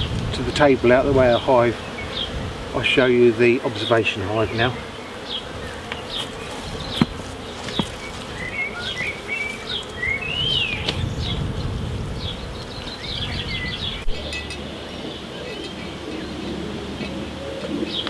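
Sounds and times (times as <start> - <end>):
honeybees buzzing: 0.0 - 18.0
birds chirping and whistling: 1.3 - 2.6, 3.8 - 18.0.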